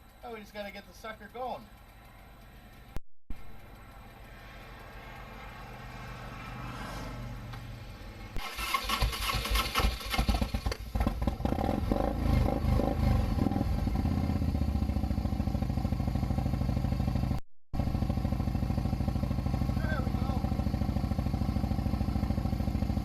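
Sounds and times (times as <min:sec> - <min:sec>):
motorcycle engine starting and idling: 0:03.6 - 0:23.0.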